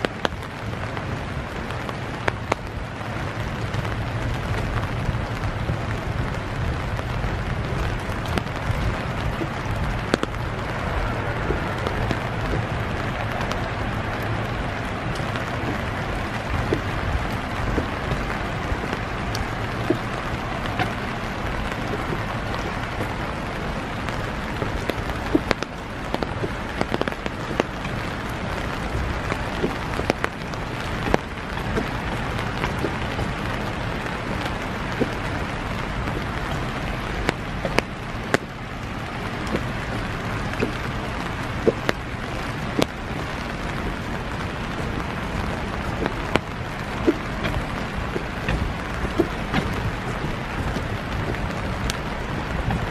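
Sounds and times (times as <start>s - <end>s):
steady rain hissing: 0.0s - 52.9s.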